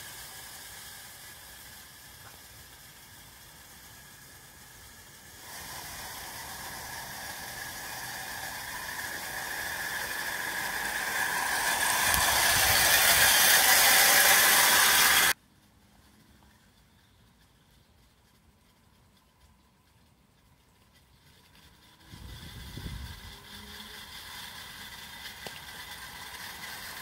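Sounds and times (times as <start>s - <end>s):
miniature train running on track: 0.0s - 27.0s.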